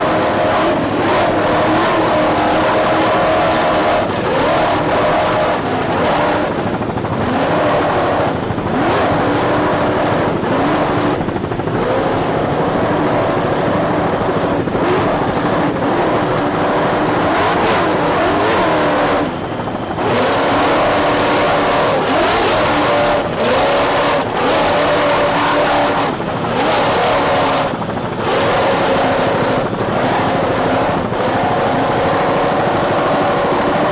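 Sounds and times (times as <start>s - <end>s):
powerboat engines running hard: 0.0s - 33.9s.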